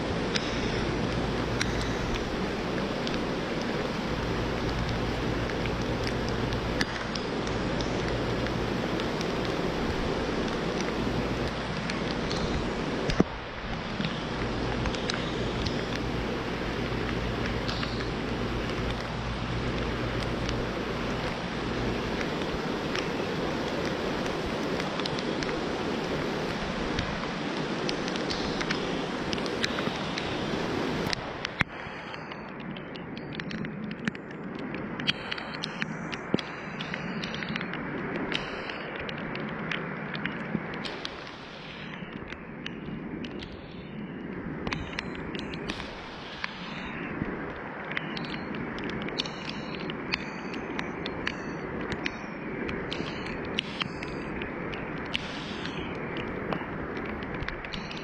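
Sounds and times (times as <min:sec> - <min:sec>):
heavy rain falling: 0:00.0 - 0:58.0
raindrop ticks: 0:00.0 - 0:58.0.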